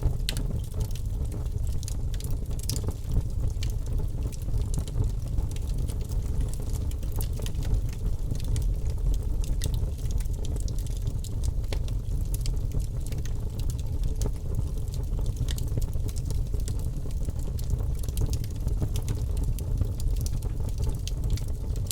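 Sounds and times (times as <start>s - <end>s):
logs crackling and popping: 0.0s - 21.9s
low rumble of fire: 0.0s - 21.9s.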